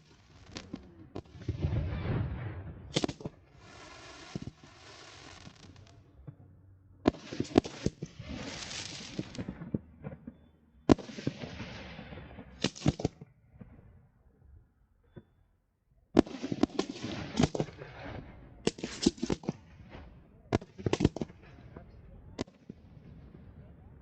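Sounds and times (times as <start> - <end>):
fireworks bangs and crackling: 0.0 - 13.8, 16.2 - 24.0.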